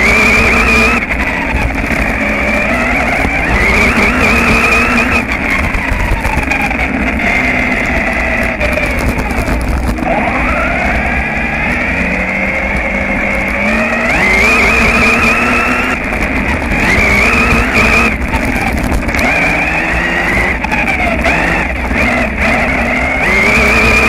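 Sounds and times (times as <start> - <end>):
remote control car motors whining: 0.0 - 24.0.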